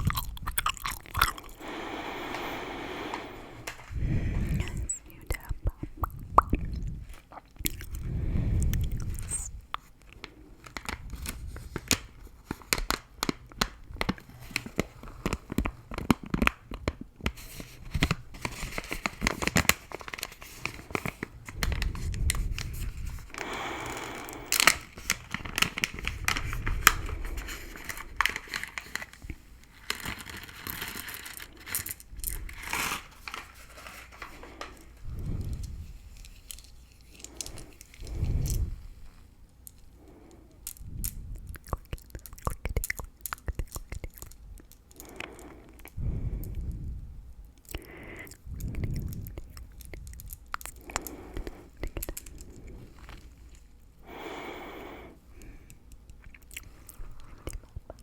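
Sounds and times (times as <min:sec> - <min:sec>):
gum chewing clicks and crackles: 0:00.0 - 0:38.7, 0:39.5 - 0:46.8, 0:47.4 - 0:58.0.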